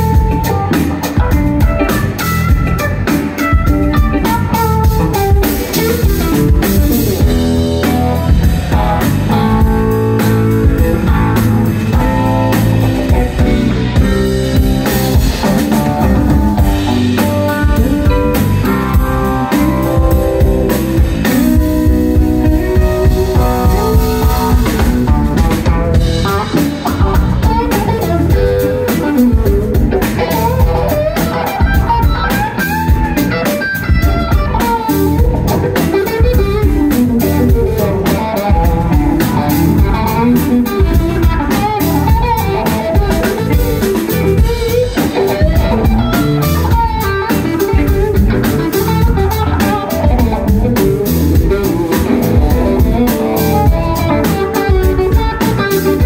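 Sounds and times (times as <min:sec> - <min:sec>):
drum kit steady beat: 0:00.0 - 0:56.0
electric bass: 0:00.0 - 0:56.0
electric guitars lead line: 0:00.0 - 0:56.0.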